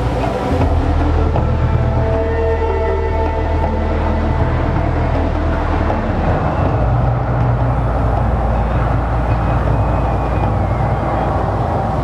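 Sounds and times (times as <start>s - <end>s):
loud low rumble: 0.0s - 12.0s.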